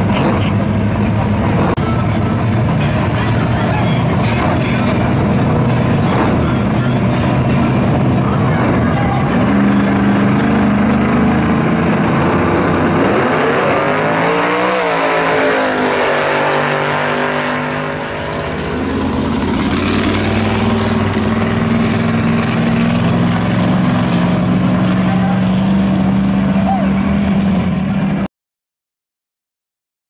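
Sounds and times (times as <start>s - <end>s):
race car engine revving: 0.0s - 28.2s.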